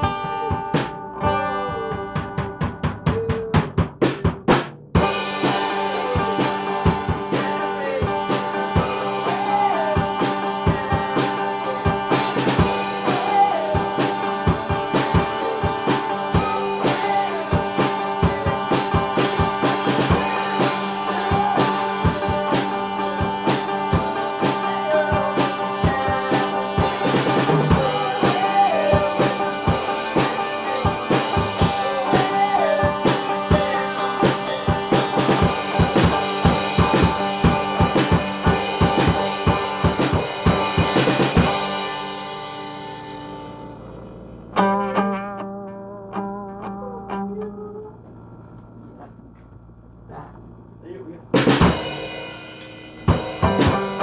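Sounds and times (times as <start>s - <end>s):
drum kit hits: 0.0s - 43.8s, 51.4s - 54.0s
guitar playing chords: 0.0s - 54.0s.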